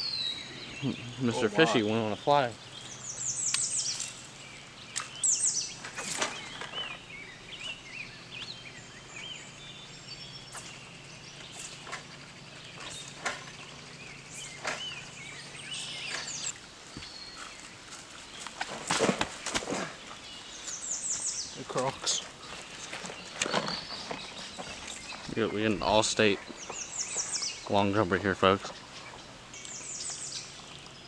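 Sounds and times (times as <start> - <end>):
songbirds chirping and whistling: 0.0 - 31.0.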